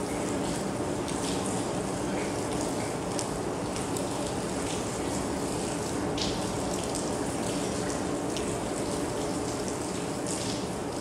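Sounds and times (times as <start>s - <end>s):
raindrops striking close by: 0.0s - 11.0s.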